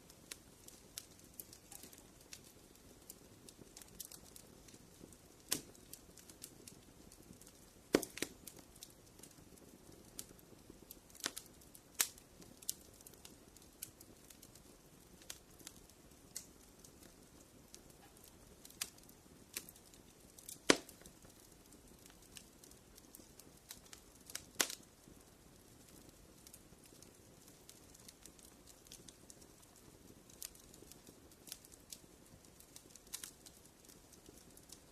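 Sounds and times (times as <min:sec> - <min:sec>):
fire hissing softly: 0:00.0 - 0:34.9
wood fire crackling: 0:00.0 - 0:34.9.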